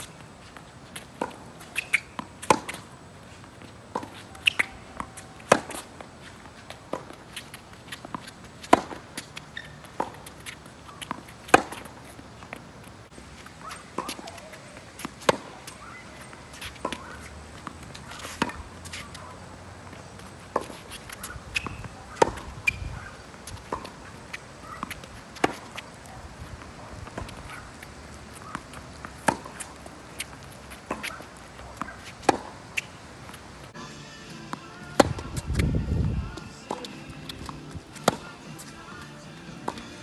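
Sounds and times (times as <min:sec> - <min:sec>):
tennis balls struck and bouncing: 0:00.0 - 0:40.0.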